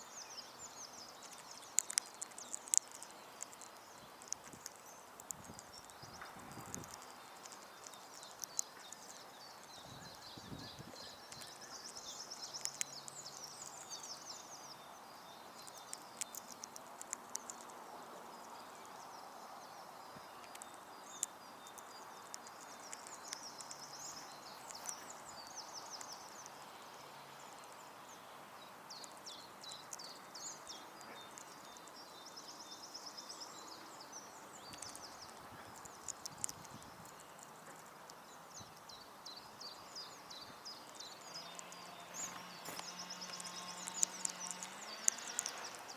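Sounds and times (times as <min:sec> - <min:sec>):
low background noise: 0:00.0 - 0:45.9
songbirds singing and twittering: 0:00.0 - 0:45.9.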